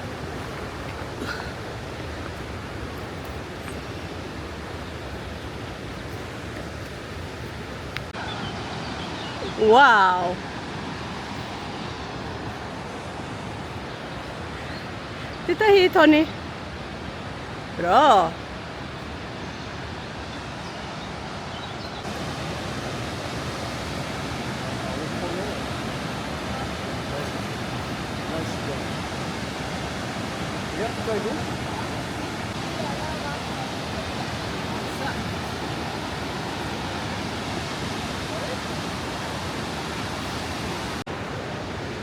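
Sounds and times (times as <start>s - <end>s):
water cascading: 0.0s - 42.0s.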